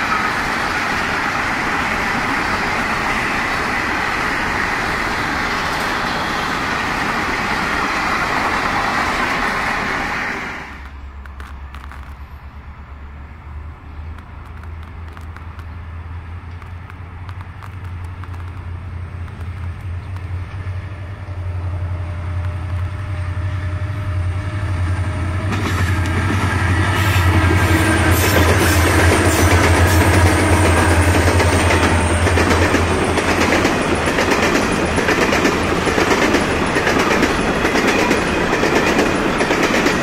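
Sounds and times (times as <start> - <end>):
diesel freight train passing: 0.0 - 40.0.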